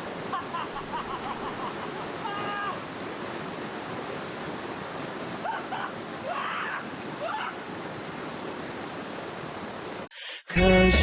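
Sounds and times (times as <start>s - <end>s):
rushing stream water: 0.0s - 10.2s.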